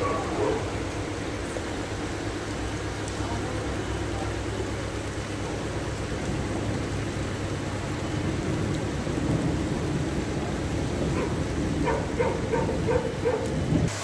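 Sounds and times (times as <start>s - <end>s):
heavy rain rushing: 0.0s - 14.0s
water in flooded street: 0.0s - 14.0s.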